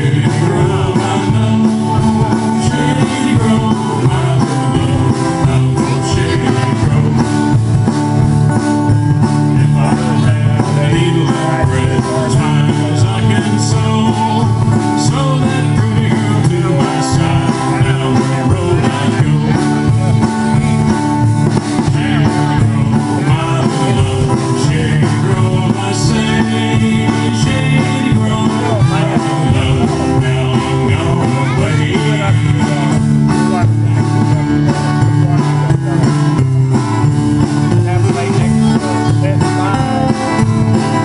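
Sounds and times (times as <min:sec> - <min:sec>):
live country band playing: 0:00.0 - 0:41.0.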